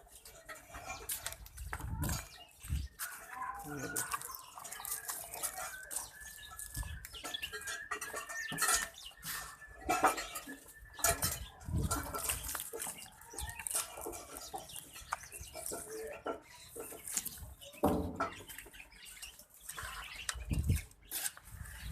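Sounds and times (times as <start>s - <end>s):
goats eating: 0.0s - 21.9s.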